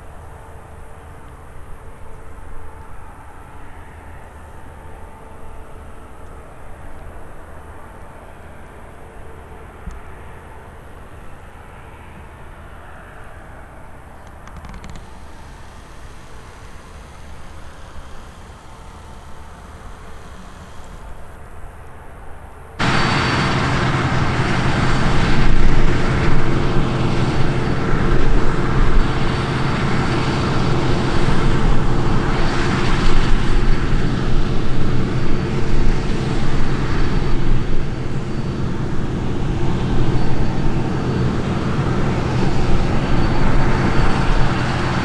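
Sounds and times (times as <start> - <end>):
combine harvester engine drone: 0.0 - 45.0.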